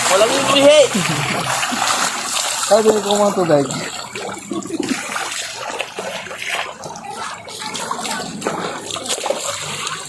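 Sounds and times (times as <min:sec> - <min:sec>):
water flowing and splashing: 0:00.0 - 0:10.0.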